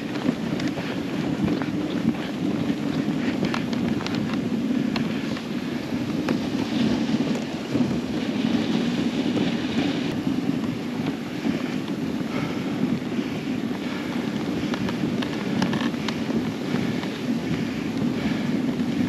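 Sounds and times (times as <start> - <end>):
sled runners rushing over snow: 0.0 - 19.0
wind buffeting microphone: 0.0 - 19.0.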